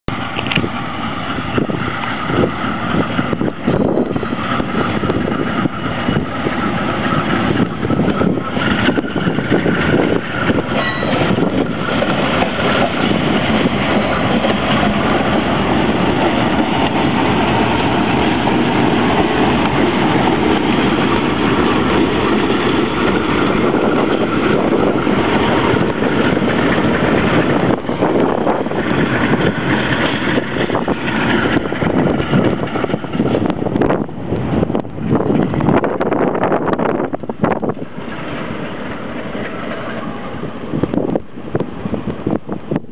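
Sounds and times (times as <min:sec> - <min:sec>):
diesel locomotives running: 0:00.0 - 0:42.9
wind noise on microphone: 0:00.1 - 0:42.9.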